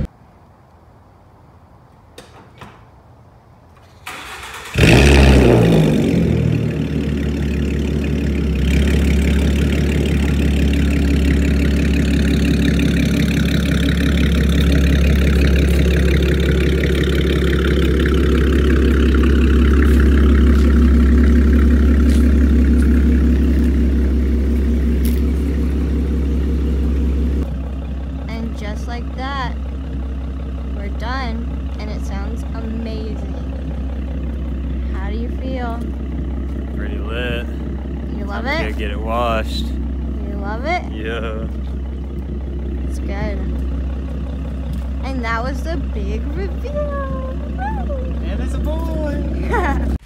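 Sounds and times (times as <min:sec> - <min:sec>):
car engine starting and idling: 0:02.2 - 0:50.0.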